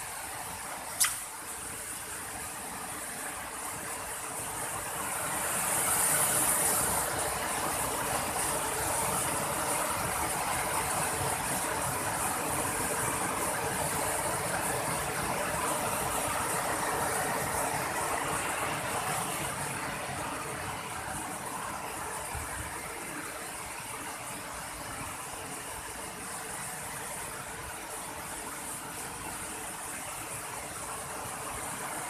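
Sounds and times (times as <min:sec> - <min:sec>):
waterfall and rapids rushing: 0:00.0 - 0:32.0.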